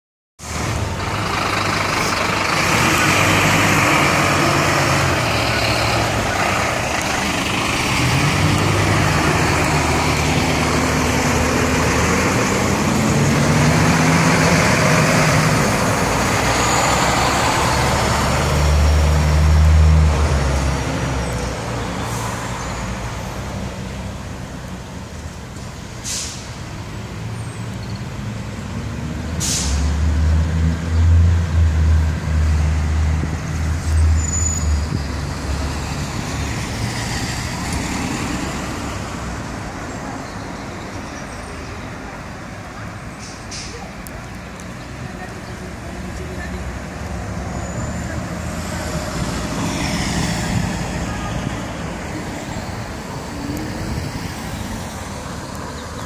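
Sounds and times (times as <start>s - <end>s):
diesel truck engines running: 0.4s - 56.0s.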